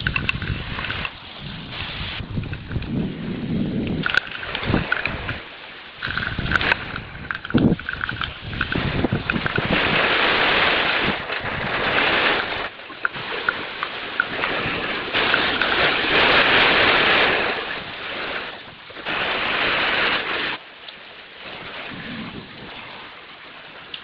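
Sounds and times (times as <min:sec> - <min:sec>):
storm wind gusting: 0:00.0 - 0:20.6, 0:21.4 - 0:23.1
wind buffeting microphone: 0:00.0 - 0:20.6, 0:21.4 - 0:24.0
rain rushing: 0:00.0 - 0:24.0.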